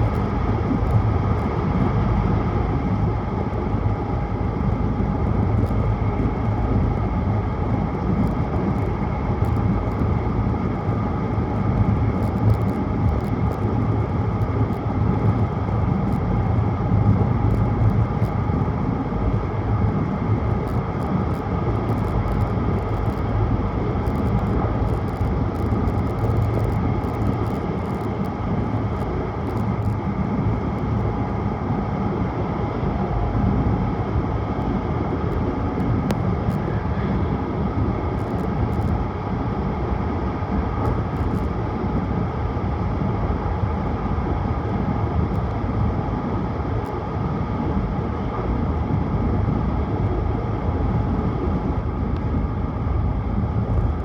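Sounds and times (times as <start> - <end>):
train running noise inside cabin: 0.0 - 54.0.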